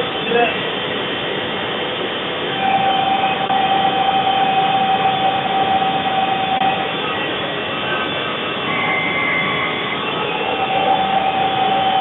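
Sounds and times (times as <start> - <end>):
high mechanical whine: 0.0 - 12.0.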